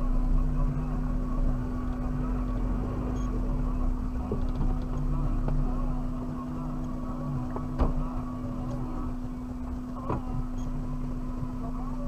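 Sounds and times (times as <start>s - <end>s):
engine drone inside car: 0.0s - 12.0s.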